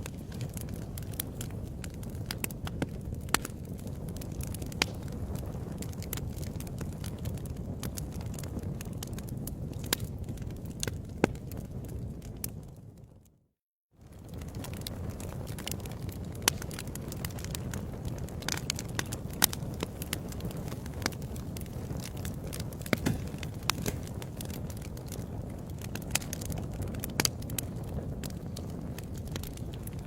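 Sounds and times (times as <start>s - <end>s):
fire crackling and popping: 0.0s - 13.4s, 14.0s - 30.0s.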